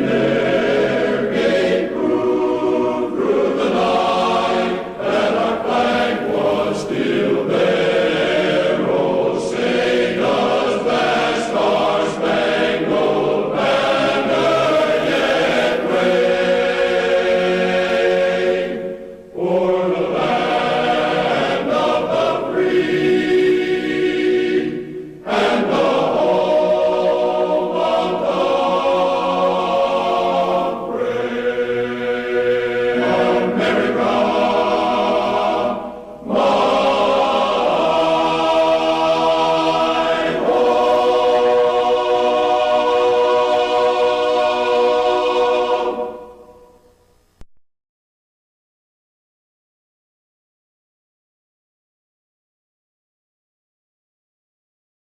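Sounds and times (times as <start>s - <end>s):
choir singing chant-like music: 0.0s - 47.0s.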